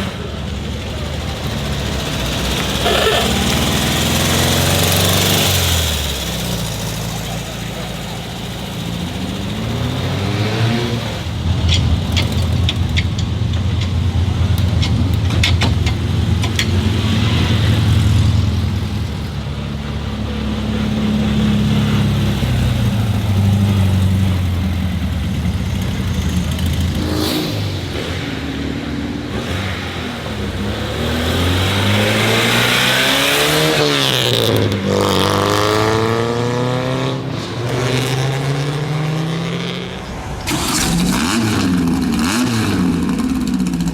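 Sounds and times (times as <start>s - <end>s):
old car engine revving: 0.0s - 43.9s.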